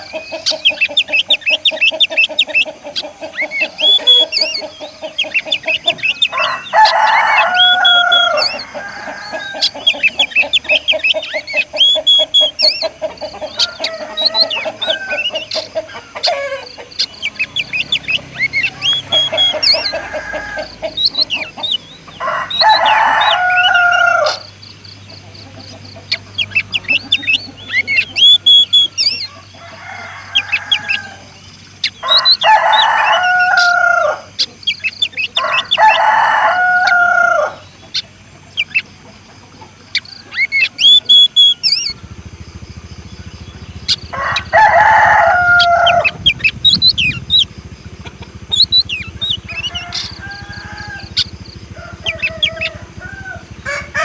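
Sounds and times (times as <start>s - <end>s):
rooster crowing: 0.0s - 24.7s, 26.4s - 34.5s, 35.2s - 37.7s, 39.9s - 54.0s
high bird chirps: 0.0s - 53.9s.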